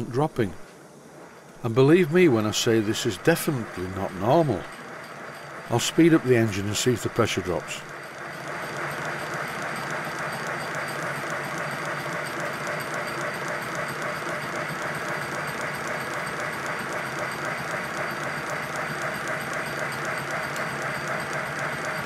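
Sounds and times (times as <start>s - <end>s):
steam engine exhaust beats: 1.1s - 22.0s.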